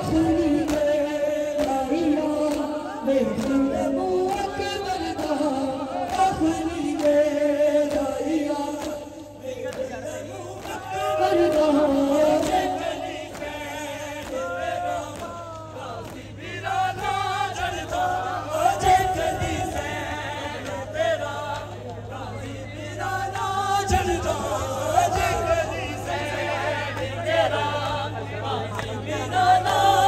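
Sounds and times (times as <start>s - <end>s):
men chanting lament in chorus: 0.0s - 30.0s.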